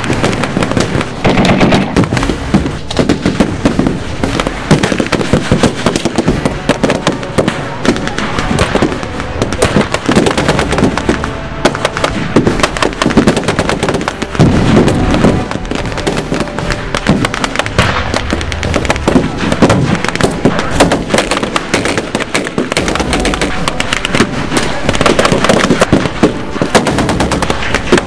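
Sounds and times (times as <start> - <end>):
machine gun firing: 0.0 - 28.0
rapid rifle gunfire: 0.0 - 28.0.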